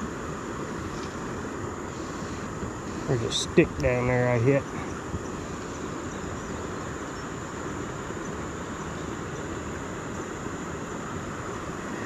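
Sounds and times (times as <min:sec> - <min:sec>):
high-pitched insect drone: 0:00.0 - 0:12.0
rushing background noise: 0:00.0 - 0:12.0.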